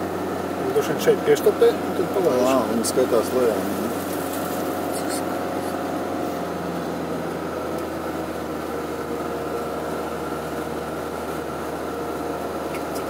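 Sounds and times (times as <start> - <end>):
car engine hum: 0.0 - 13.0
tyre road noise: 0.0 - 13.0.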